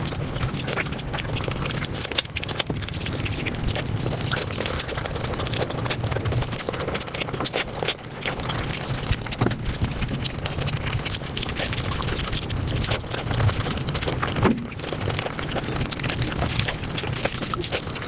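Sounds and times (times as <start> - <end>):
sped-up chewing and smacking: 0.0 - 18.0.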